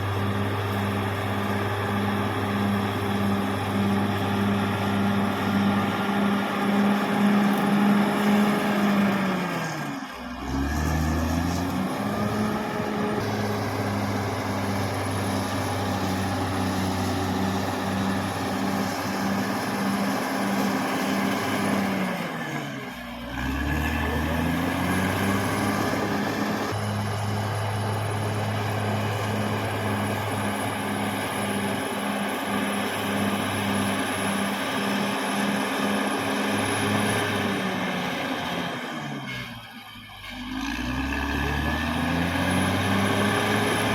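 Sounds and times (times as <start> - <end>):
bulldozer diesel engine working: 0.0 - 43.9.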